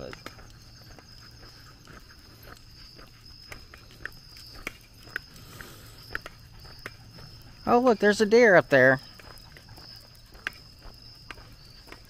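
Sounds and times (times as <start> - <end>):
high insect trill: 0.0 - 12.0.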